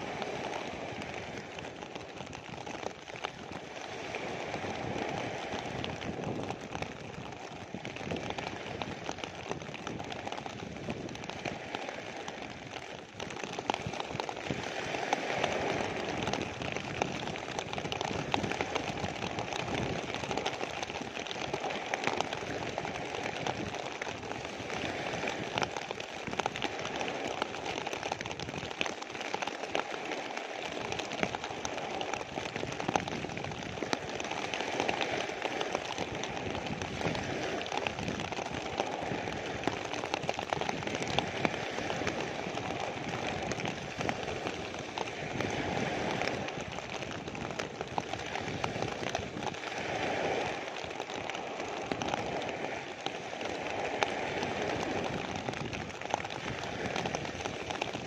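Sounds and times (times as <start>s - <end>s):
rain on plastic sheet: 0.0s - 58.0s
waves breaking on pebble beach: 0.0s - 58.0s.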